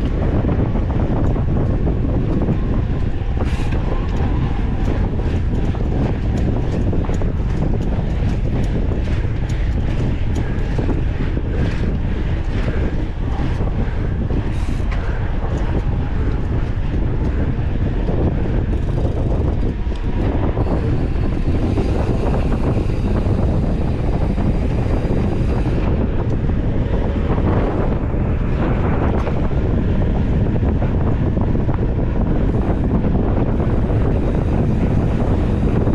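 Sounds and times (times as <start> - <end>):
bike rattling on rough trail: 0.0 - 35.9
wind on camera microphone: 0.0 - 35.9.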